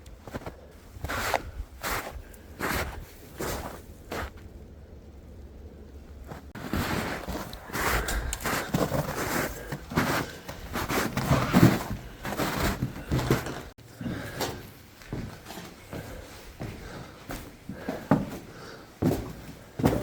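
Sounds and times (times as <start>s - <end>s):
close footsteps: 0.0s - 5.2s, 6.2s - 20.0s.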